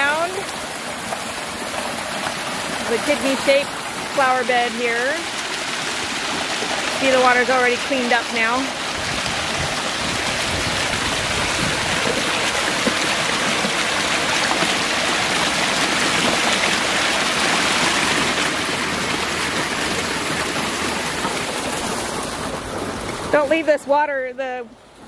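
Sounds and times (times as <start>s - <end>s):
water cascading down rocks: 0.0s - 24.3s.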